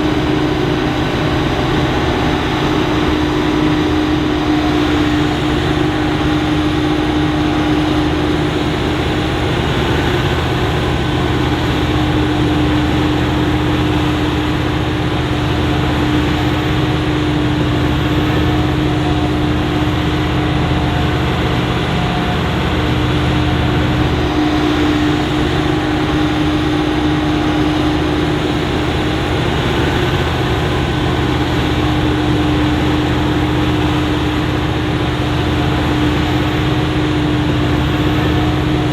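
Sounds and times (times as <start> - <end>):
tractor engines working: 0.0 - 38.9.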